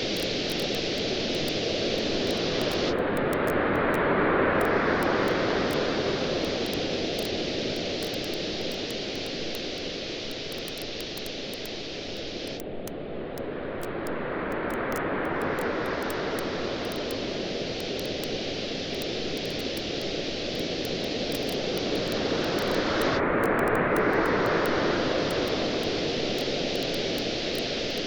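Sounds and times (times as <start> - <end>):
campfire crackling: 0.0 - 3.9, 4.7 - 12.8, 14.6 - 28.0
waves washing on a beach: 0.0 - 12.5, 13.5 - 28.0.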